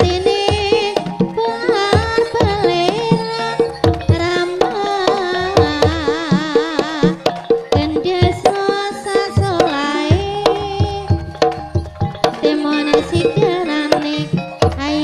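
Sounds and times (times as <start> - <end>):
hand drums beating: 0.0 - 15.0
pitched metal percussion: 0.0 - 15.0
wavering vocal line: 0.0 - 15.0.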